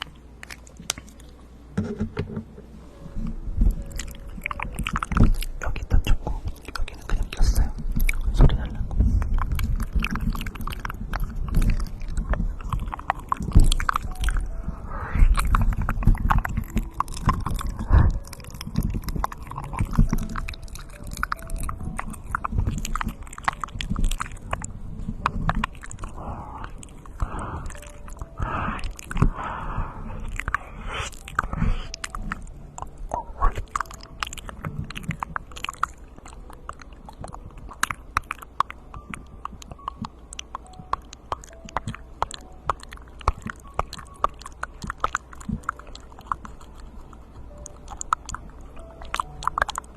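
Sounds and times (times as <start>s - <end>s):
wet mouth clicks and smacks: 0.0s - 1.4s, 3.8s - 14.5s, 15.3s - 29.4s, 30.2s - 49.9s.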